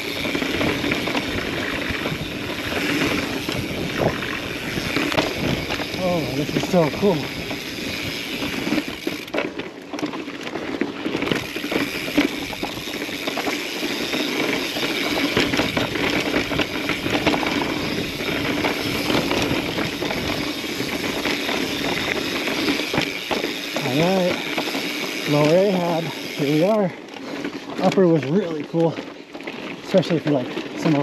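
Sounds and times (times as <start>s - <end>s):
bike rattling and clicking: 0.0s - 31.0s
bike tyres rolling on rock: 0.0s - 31.0s.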